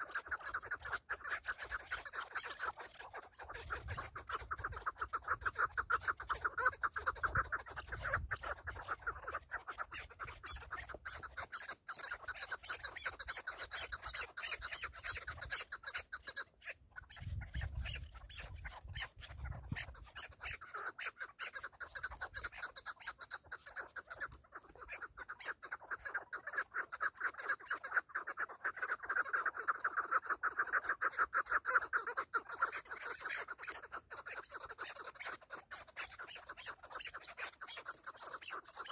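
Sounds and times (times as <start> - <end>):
partridges chucking calls: 0.0 - 38.9.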